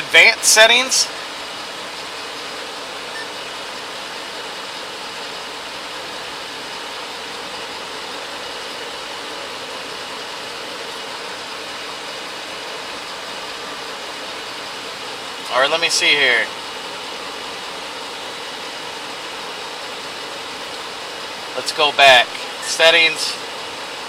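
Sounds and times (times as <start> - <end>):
air conditioning blower rushing: 0.0 - 24.0
car engine idling: 0.0 - 24.0.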